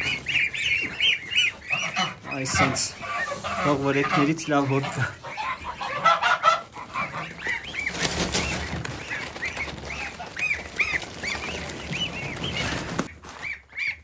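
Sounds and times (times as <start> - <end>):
goslings peeping: 0.0 - 14.0.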